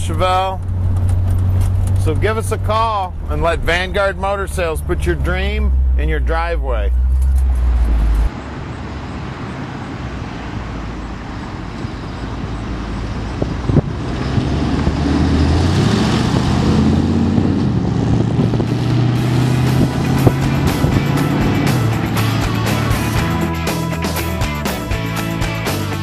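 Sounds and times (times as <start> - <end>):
car engine driving past: 0.6 - 23.3.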